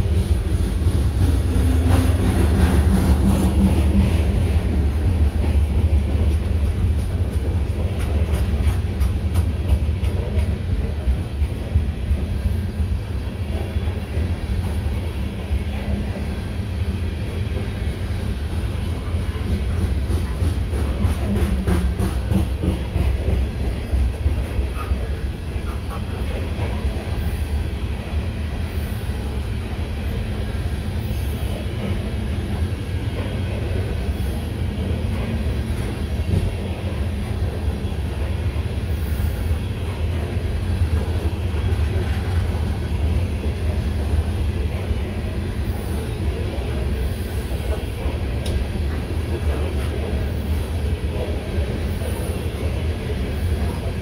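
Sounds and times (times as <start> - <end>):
steel train wheels rumbling on rails: 0.0 - 54.0.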